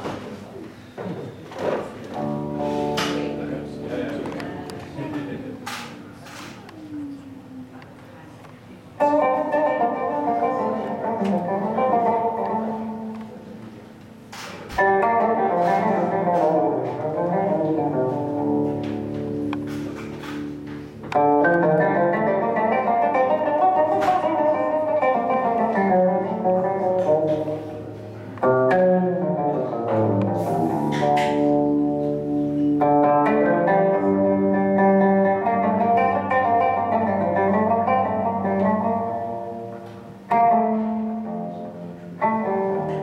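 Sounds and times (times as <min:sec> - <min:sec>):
oud played with plectrum: 0:01.5 - 0:07.1, 0:08.9 - 0:43.0
electric guitar chord ringing: 0:02.2 - 0:05.3, 0:09.0 - 0:13.7, 0:14.8 - 0:43.0.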